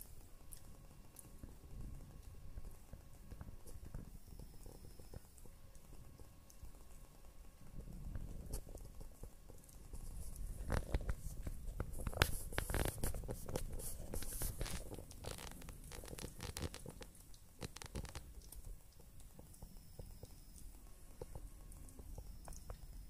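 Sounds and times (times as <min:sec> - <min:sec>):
kittens suckling with wet clicks: 0:00.0 - 0:23.0.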